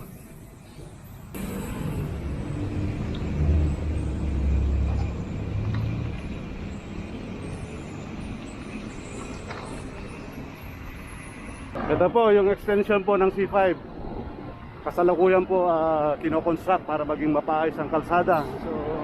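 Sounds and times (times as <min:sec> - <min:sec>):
vehicle engine rumble: 0:00.0 - 0:16.8
road traffic passing: 0:00.0 - 0:19.0.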